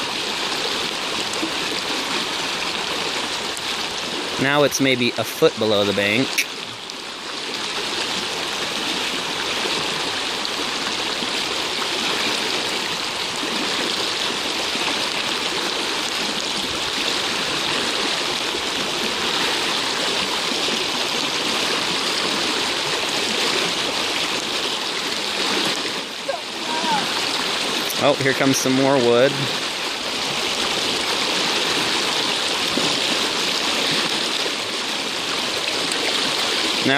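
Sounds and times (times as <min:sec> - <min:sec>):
floodwater rushing in creek: 0:00.0 - 0:36.9.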